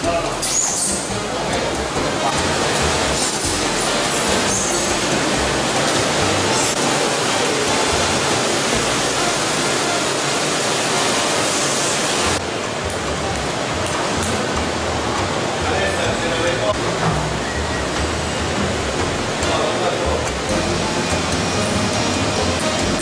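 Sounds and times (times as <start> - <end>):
machinery running: 0.0 - 23.0
water running in vats: 0.0 - 23.0.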